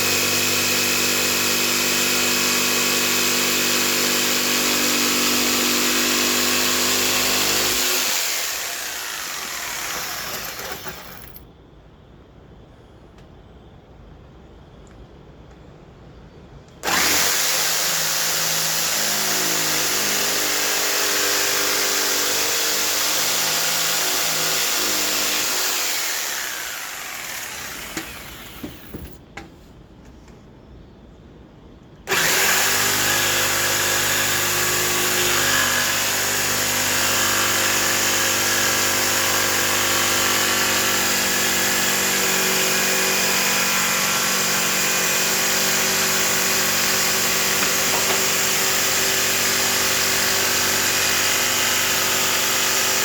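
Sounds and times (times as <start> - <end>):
electric saw cutting wood: 0.0 - 11.4, 16.8 - 29.1, 32.1 - 53.0.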